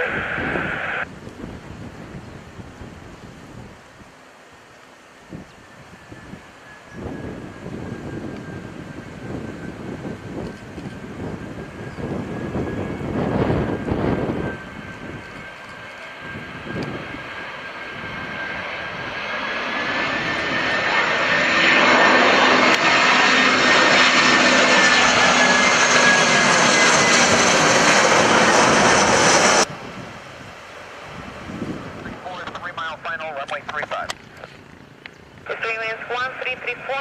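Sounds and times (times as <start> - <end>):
high engine whine: 0.0 - 1.1, 5.0 - 37.0
jet airliner engines on approach: 0.0 - 37.0.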